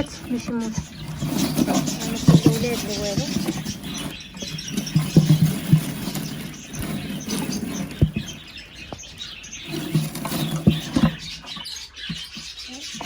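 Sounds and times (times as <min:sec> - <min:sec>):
birds fluttering: 0:00.0 - 0:13.0
small birds chirping: 0:00.0 - 0:13.0
wooden nest boxes knocking: 0:00.0 - 0:13.0.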